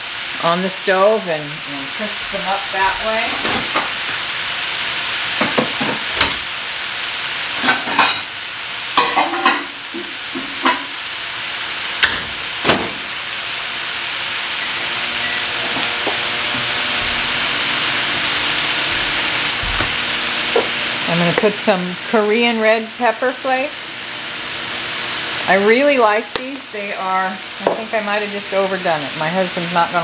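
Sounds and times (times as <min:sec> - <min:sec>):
vegetables sizzling in a wok: 0:00.0 - 0:30.0.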